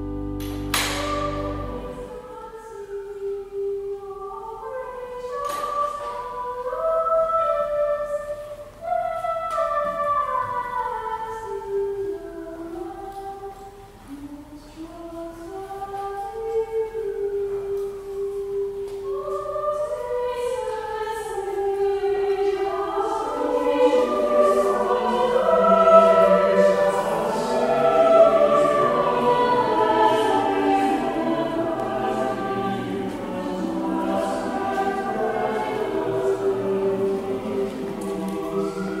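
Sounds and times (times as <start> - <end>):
choir singing held notes: 0.0 - 39.0.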